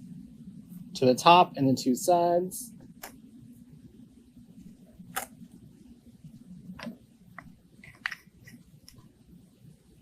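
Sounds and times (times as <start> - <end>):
room hum: 0.0 - 10.0.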